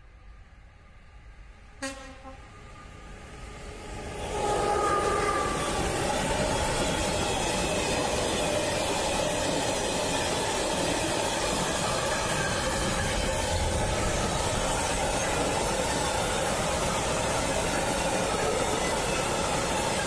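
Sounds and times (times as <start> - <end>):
freight train wheels on rails: 1.0 - 20.0.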